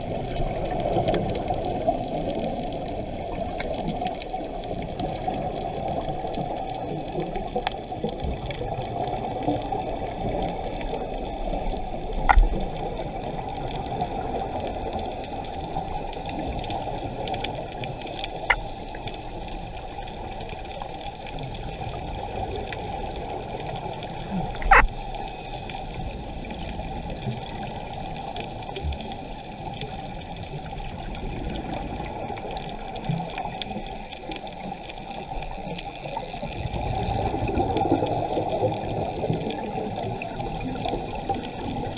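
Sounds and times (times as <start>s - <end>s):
muffled underwater rushing: 0.0s - 41.9s.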